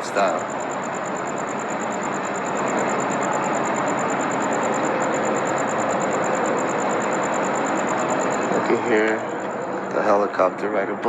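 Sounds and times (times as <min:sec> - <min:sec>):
helicopter drone: 0:00.0 - 0:11.0
high pulsing whine: 0:00.0 - 0:11.0.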